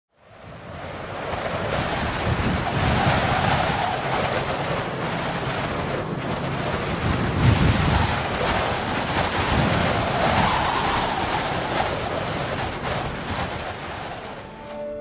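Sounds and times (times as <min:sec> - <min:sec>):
steady rushing noise: 0:00.2 - 0:15.0.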